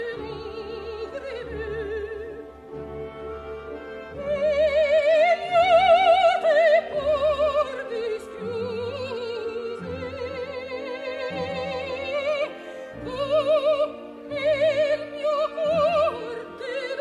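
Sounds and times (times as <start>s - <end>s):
operatic soprano singing: 0.0s - 17.0s
soft orchestral accompaniment: 0.0s - 17.0s.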